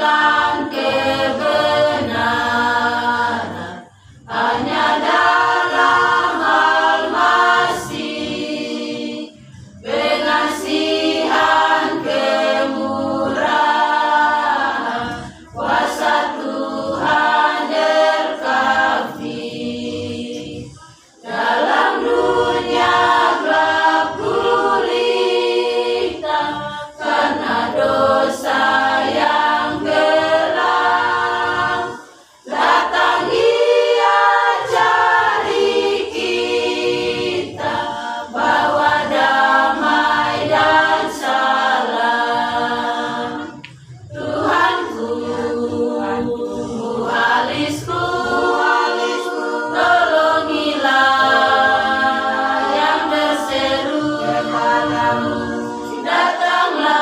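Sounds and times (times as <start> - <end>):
women's choir singing: 0.0 - 57.0.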